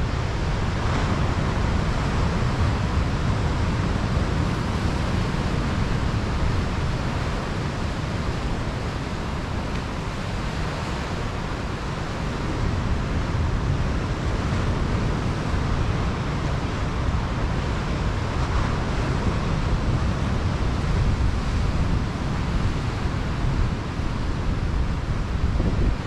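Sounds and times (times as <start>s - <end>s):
surf breaking on a beach: 0.0s - 26.0s.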